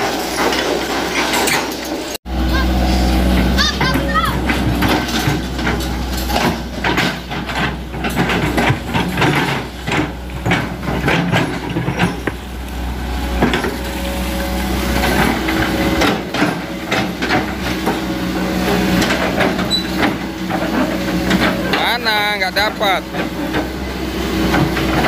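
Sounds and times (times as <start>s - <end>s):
excavator diesel engine running: 0.0s - 25.0s
machine knocks and clatter: 3.8s - 25.0s.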